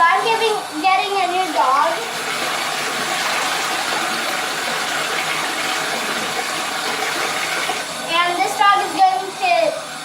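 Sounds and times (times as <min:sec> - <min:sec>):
tap water running into bathtub: 0:00.0 - 0:10.0.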